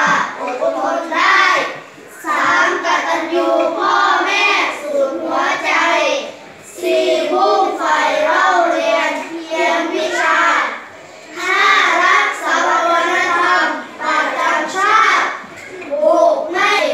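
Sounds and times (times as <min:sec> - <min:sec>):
children reading aloud in chorus: 0:00.0 - 0:16.9.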